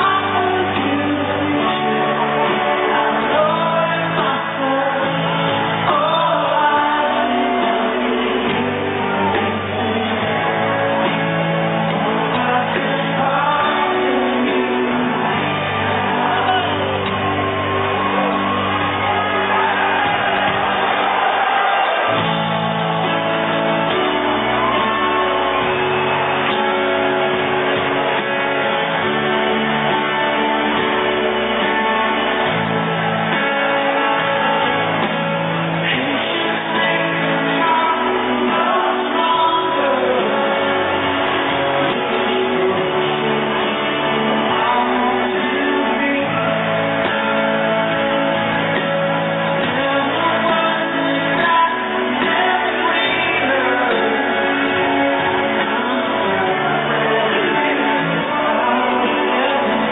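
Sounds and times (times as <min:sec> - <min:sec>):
live rock band: 0:00.0 - 0:59.9.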